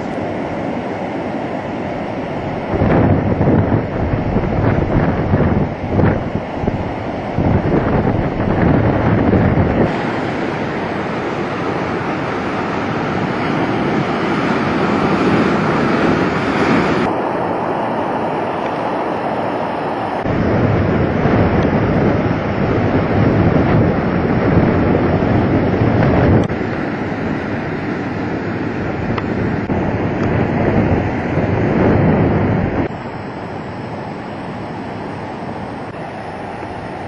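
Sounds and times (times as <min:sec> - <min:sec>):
storm waves breaking: 0:00.0 - 0:37.0
wind buffeting microphone: 0:00.0 - 0:37.0.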